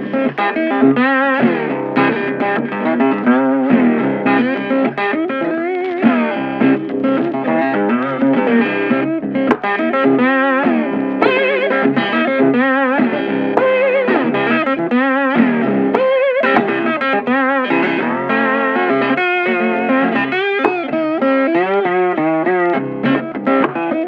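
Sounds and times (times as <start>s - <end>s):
guitar music with wavering notes: 0.0s - 24.0s.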